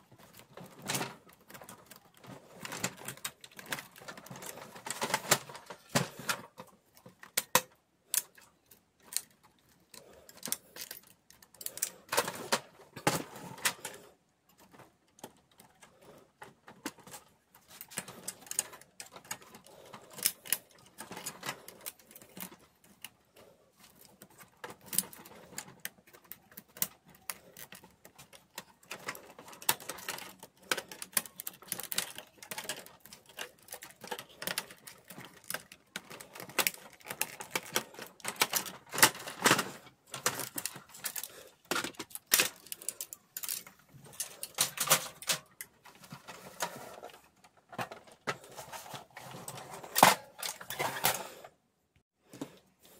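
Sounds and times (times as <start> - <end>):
plastic parts clicking and rattling: 0.0 - 51.6.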